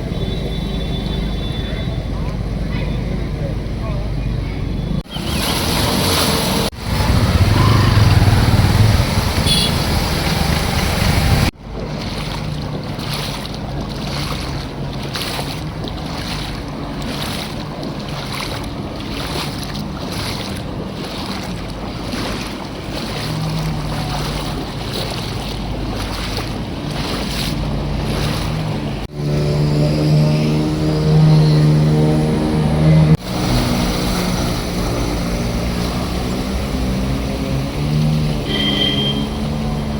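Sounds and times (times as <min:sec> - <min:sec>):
floodwater sloshing: 0:00.0 - 0:39.9
vehicle engines running: 0:00.0 - 0:39.9.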